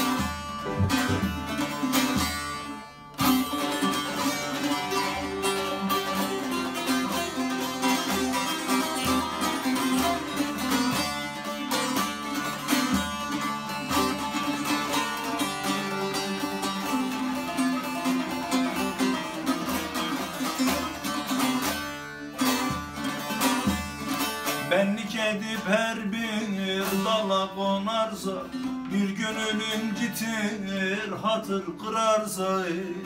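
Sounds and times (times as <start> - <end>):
long-necked lutes strummed and plucked: 0.0 - 33.0.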